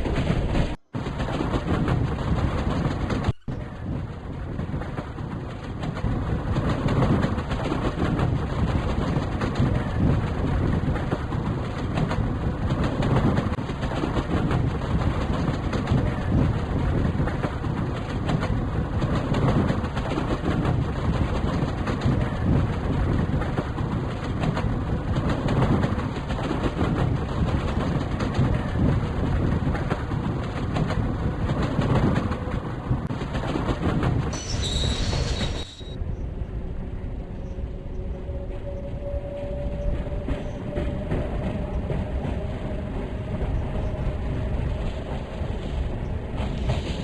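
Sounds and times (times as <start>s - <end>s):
train rumbling on track: 0.0s - 47.0s.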